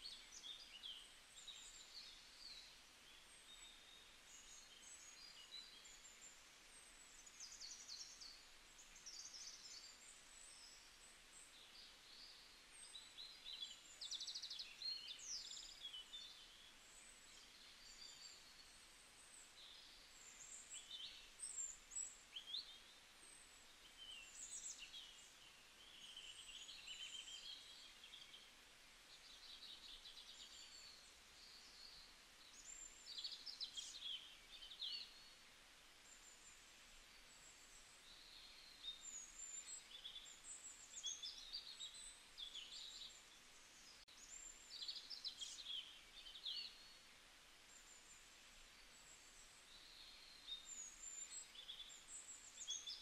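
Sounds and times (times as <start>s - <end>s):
small birds chirping and trilling: 0.0s - 53.0s.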